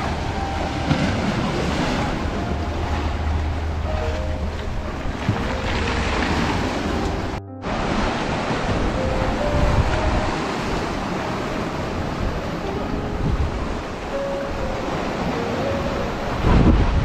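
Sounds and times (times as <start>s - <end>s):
sea waves washing onto shore: 0.0s - 17.0s
wind rumbling on microphone: 0.0s - 17.0s.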